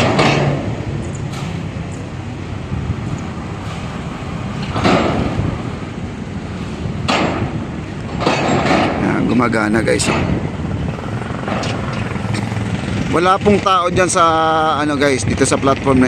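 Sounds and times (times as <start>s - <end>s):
pile-driving rig rumbling: 0.0s - 16.0s
rushing bursts: 0.0s - 16.0s.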